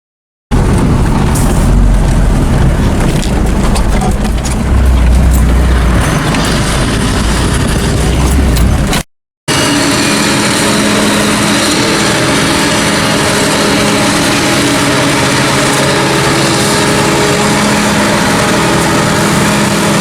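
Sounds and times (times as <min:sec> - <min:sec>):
diesel farm machinery rumbling: 0:00.5 - 0:20.0.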